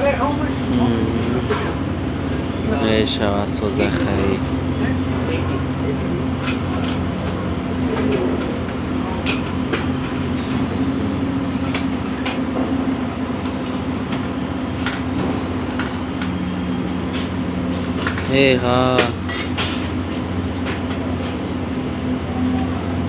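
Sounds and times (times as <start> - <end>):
low machine drone: 0.0 - 23.0.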